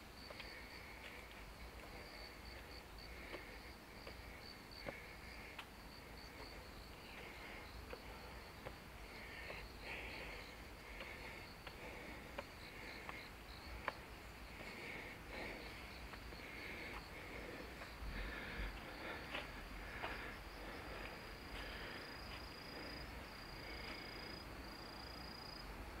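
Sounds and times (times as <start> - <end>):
insects chirping: 0.0 - 26.0
faint footsteps: 0.2 - 24.3.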